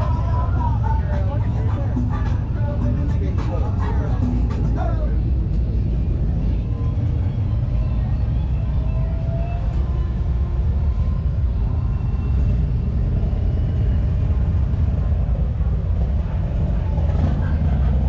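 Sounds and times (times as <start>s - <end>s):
motorcycle engines idling: 0.0s - 8.9s, 10.4s - 18.0s.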